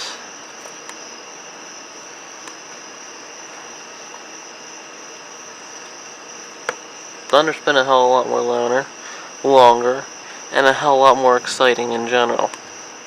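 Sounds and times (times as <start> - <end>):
constant rushing hiss: 0.0 - 13.0
insects shrilling: 0.0 - 13.0.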